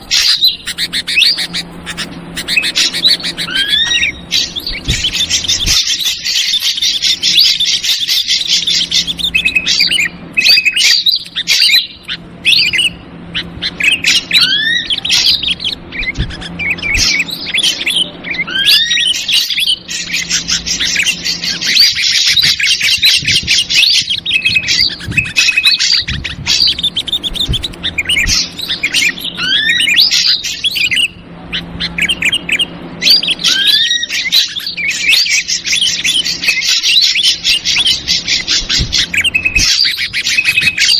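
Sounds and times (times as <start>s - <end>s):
faint low hum: 0.0s - 40.9s
harsh bird chattering: 0.0s - 40.9s
whistled bird notes: 0.0s - 40.9s.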